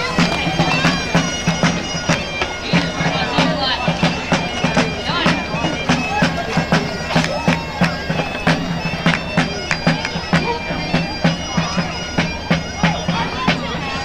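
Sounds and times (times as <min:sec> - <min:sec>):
bagpipes playing a march: 0:00.0 - 0:14.0.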